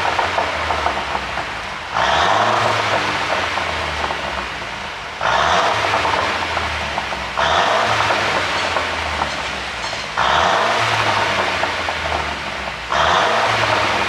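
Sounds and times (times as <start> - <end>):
car exhaust revving with pops: 0.0 - 14.0.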